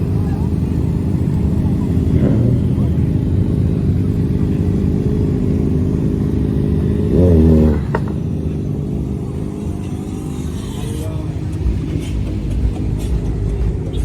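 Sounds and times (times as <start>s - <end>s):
car engine idling: 0.0s - 14.0s
engine revving: 0.0s - 14.0s.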